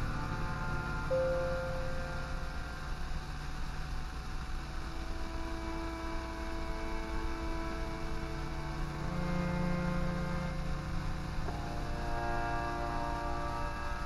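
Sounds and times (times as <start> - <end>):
long held synth tones: 0.0 - 14.0
low synth hum: 0.0 - 14.0.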